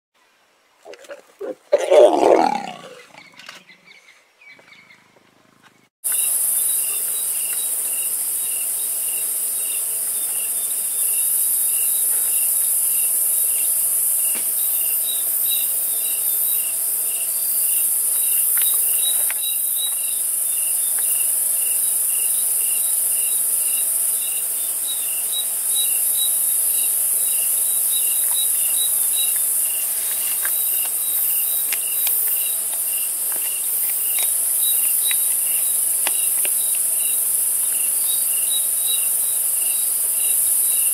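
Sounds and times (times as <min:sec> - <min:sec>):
regular cricket chirp: 0:06.1 - 0:40.9.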